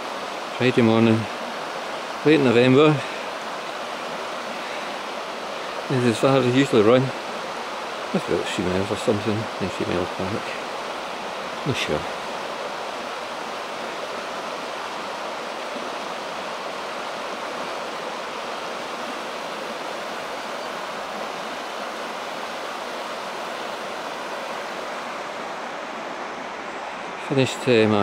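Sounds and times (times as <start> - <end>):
river rushing over stones: 0.0 - 28.0.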